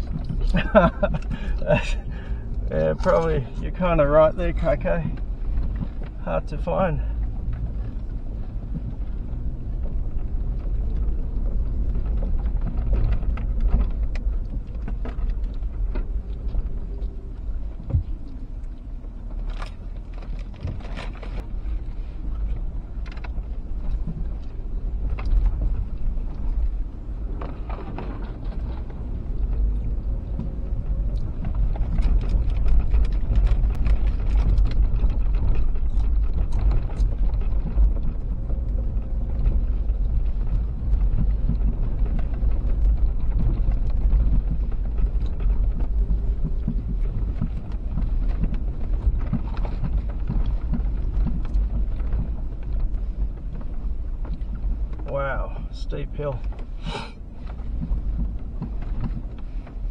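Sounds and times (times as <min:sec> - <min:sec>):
vehicle rumbling on dirt track: 0:00.0 - 0:59.9.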